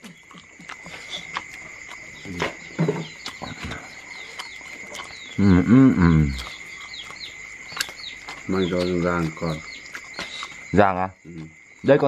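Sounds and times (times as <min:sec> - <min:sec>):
insects trilling: 0:00.0 - 0:12.0
small bird chirps: 0:00.0 - 0:12.0.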